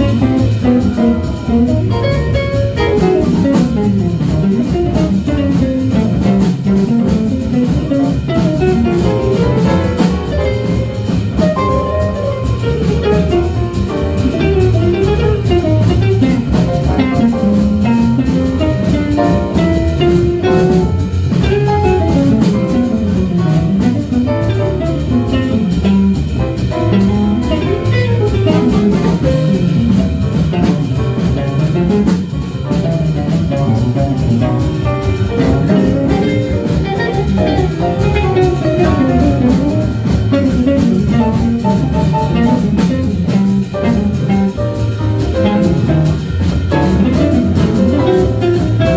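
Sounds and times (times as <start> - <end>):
bass: 0.0 - 48.9
drum kit: 0.0 - 48.9
melodic guitar line: 0.0 - 48.9.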